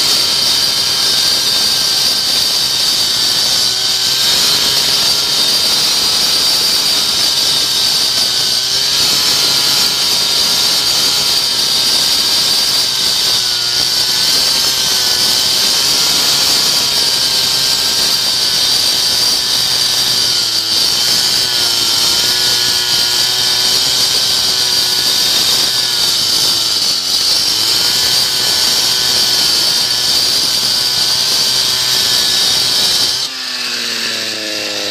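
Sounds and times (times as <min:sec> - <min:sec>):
saw cutting concrete: 0:00.0 - 0:34.9.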